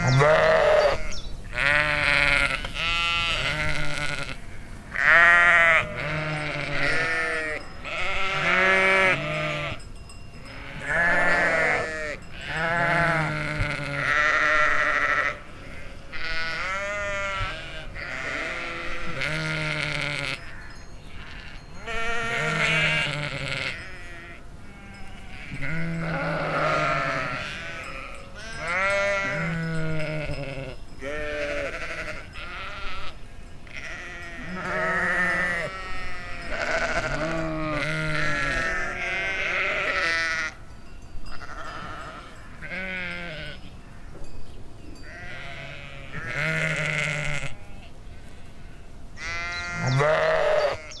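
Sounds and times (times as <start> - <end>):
sheep bleating: 0.0 - 9.8, 10.5 - 40.6, 41.3 - 43.7, 45.0 - 51.0.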